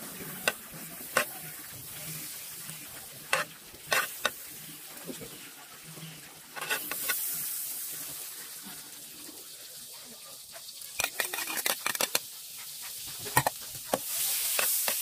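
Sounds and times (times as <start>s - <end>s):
battered food sizzling in oil: 0.0s - 15.0s.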